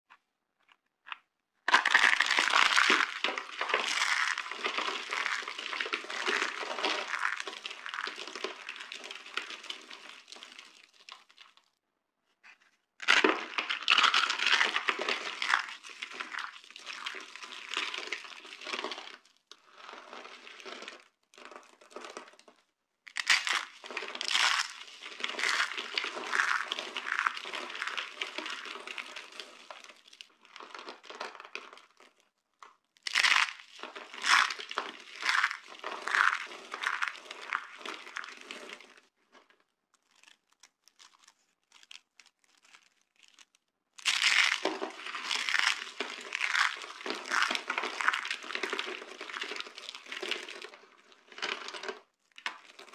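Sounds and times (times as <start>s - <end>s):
dry soap crackling and crunching: 0.1s - 52.9s.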